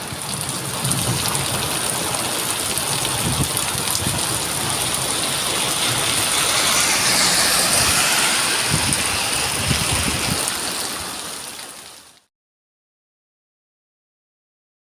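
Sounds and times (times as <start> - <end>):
rain hiss: 0.0 - 12.3.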